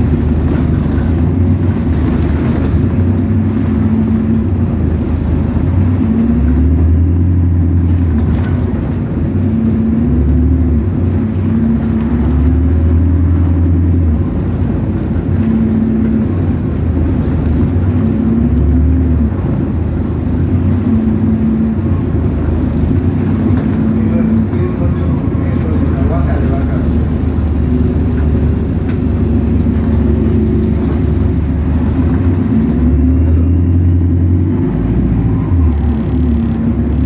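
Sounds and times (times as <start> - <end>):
bus engine running: 0.0 - 37.0.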